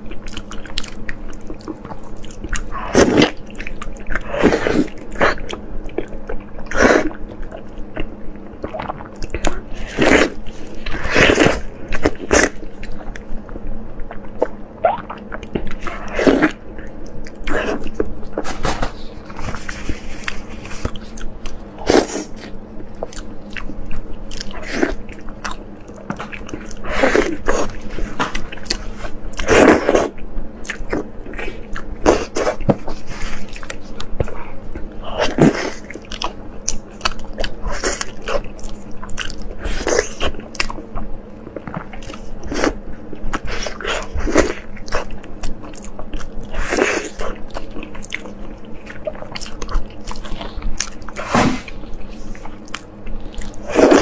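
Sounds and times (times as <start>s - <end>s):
wet biting and chewing: 0.0s - 54.0s.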